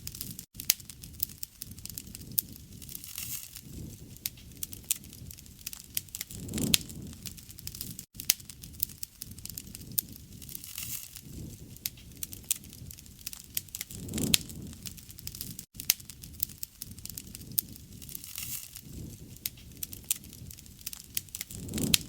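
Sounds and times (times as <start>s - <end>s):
low rumble of burning: 0.0s - 22.0s
wood fire crackling and popping: 0.0s - 22.0s.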